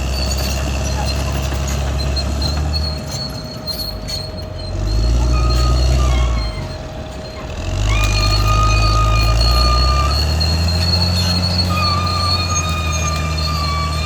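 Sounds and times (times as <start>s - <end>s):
bulldozer diesel engine under load: 0.0s - 14.0s
high squeal: 0.0s - 14.0s.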